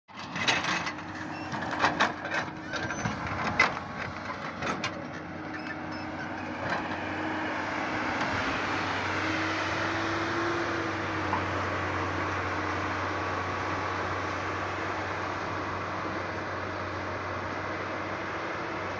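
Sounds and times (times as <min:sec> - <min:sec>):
excavator diesel engine running: 0:00.1 - 0:18.9.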